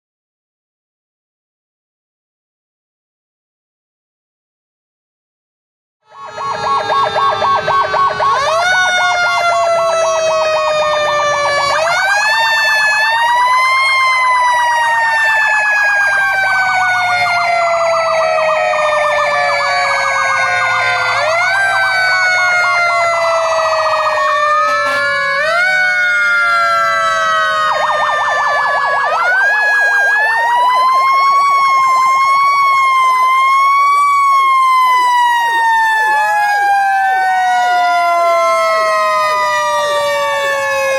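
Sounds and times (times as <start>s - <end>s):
fast-pulsing electronic siren tones: 6.0s - 13.4s, 14.0s - 40.9s
fire truck sirens wailing: 6.0s - 40.9s
truck engines rumbling: 6.1s - 40.9s.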